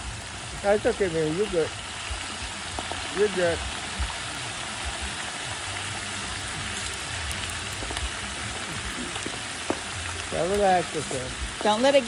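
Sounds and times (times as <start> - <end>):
hot oil sizzling and bubbling: 0.0 - 12.0.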